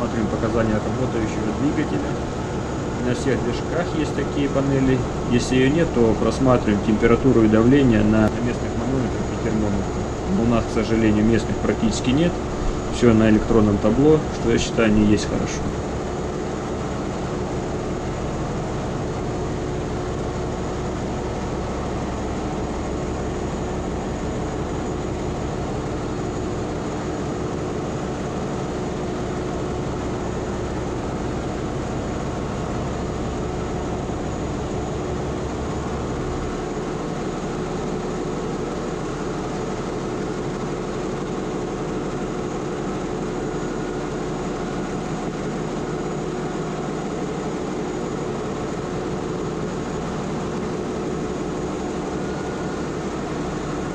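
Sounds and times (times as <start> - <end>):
diesel generator engine droning: 0.0 - 53.9.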